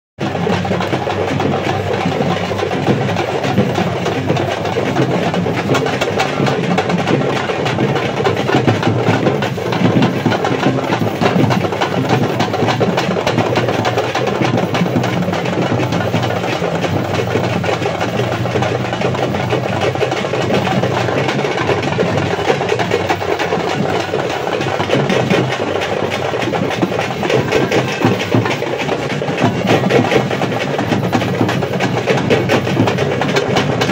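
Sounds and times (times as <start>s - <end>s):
drum band beating fast: 0.2s - 33.9s
large crowd noise: 0.2s - 33.9s.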